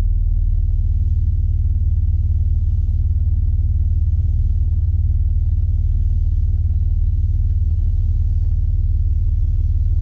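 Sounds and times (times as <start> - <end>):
engine idling low hum: 0.0 - 10.0.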